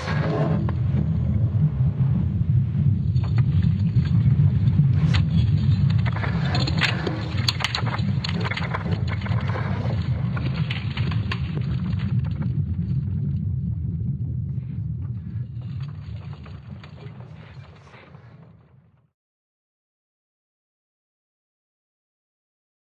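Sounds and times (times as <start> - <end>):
low noisy rumble with crackle: 0.0 - 19.1.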